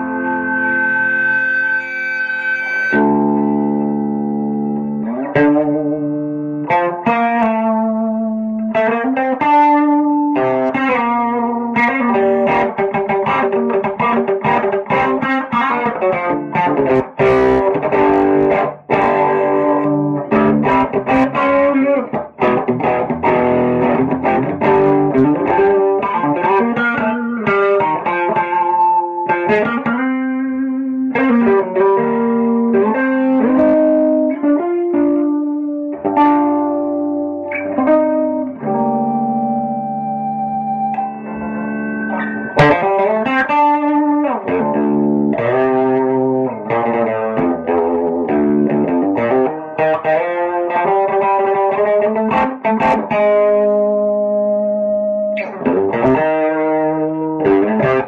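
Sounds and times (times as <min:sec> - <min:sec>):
electric guitar chords and lines: 0:00.0 - 0:58.0.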